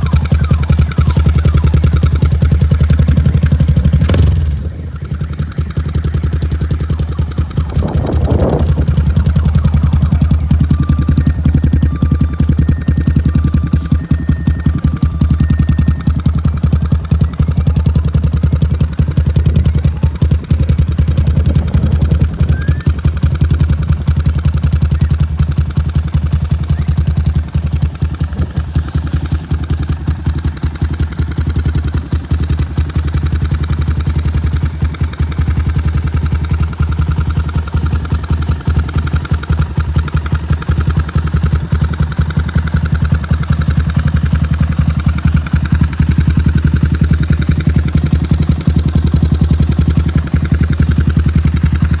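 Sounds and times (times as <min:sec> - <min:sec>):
motorcycle engine idling: 0:00.0 - 0:52.0.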